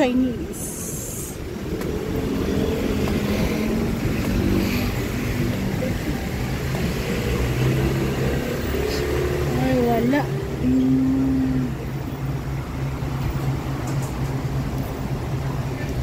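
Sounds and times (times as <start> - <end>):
engine humming: 0.0 - 16.0
traffic noise: 0.0 - 16.0.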